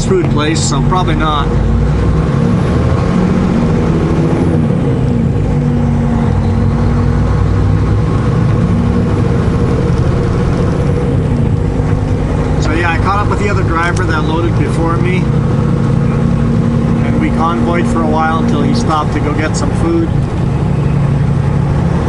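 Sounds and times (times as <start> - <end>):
truck diesel engine from cab: 0.0 - 22.0.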